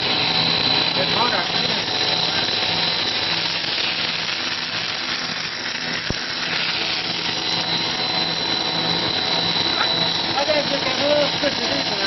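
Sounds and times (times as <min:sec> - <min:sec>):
extruder machine hissing and whining: 0:00.0 - 0:12.0.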